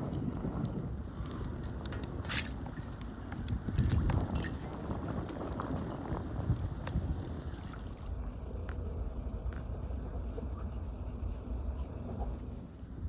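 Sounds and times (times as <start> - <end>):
burning wood crackling: 0.0 - 13.0
wind rumbling on microphone: 0.0 - 13.0.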